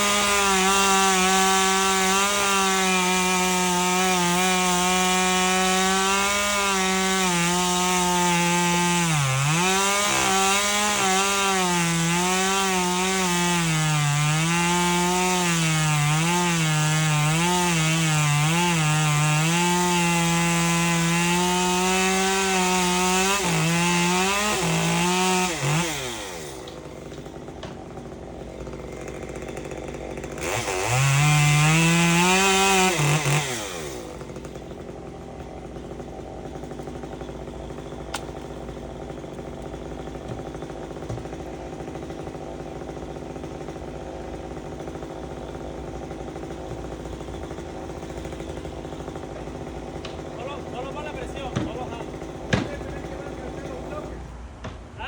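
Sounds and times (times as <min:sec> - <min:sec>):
chainsaw cutting through tree: 0:00.0 - 0:55.0.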